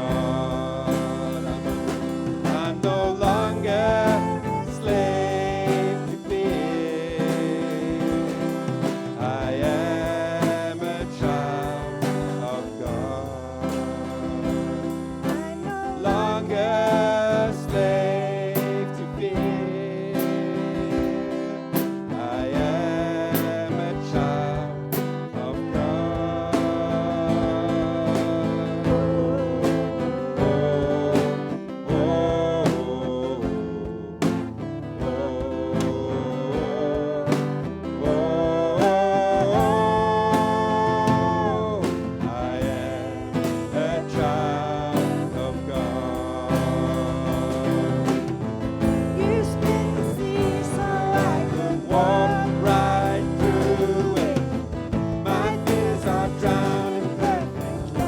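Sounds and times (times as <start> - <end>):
person singing: 0.0 - 58.0
worship band with guitar: 0.0 - 58.0.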